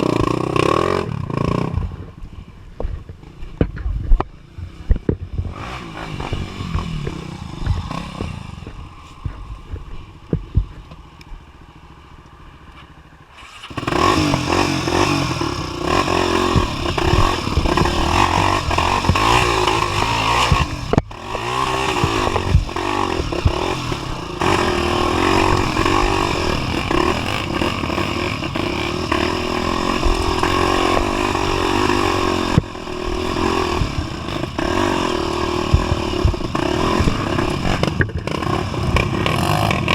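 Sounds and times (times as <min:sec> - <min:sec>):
motorcycle engine: 0:00.0 - 0:39.9
clattering on rough ground: 0:02.8 - 0:11.4, 0:15.6 - 0:39.9.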